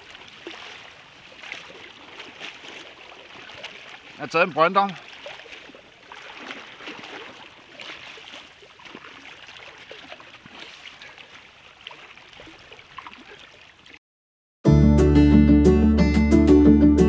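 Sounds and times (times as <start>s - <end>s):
water lapping at rocky shore: 0.0s - 14.0s.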